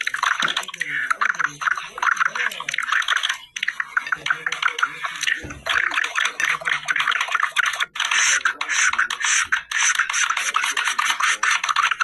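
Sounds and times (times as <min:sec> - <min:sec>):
rapid scratching: 0:00.0 - 0:12.0.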